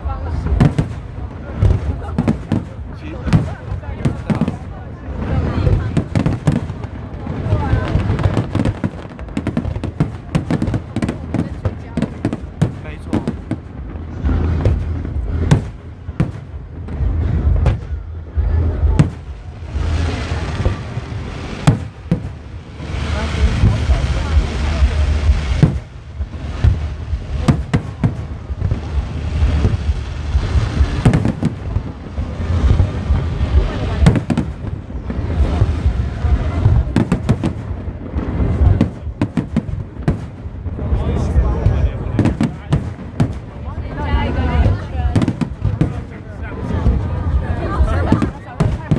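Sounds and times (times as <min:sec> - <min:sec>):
fireworks bangs: 0:00.0 - 0:48.9
steady low rumble: 0:00.0 - 0:48.9.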